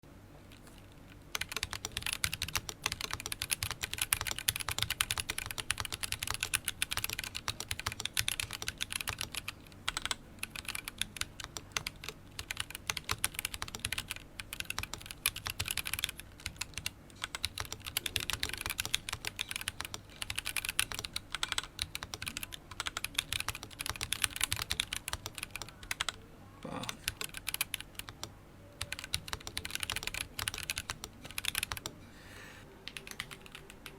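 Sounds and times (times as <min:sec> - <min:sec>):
typing on mechanical keyboard: 0:00.5 - 0:26.2, 0:27.0 - 0:32.0, 0:32.8 - 0:33.9.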